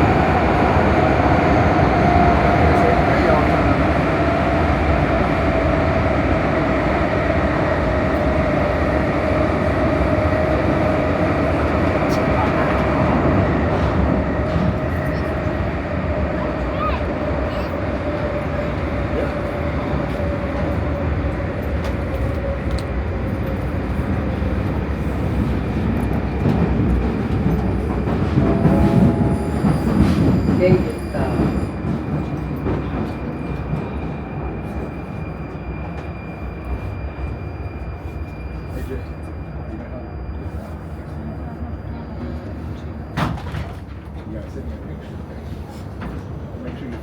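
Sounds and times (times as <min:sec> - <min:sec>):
steady train whine: 0:00.0 - 0:47.0
train wheels rumbling on track: 0:00.0 - 0:47.0.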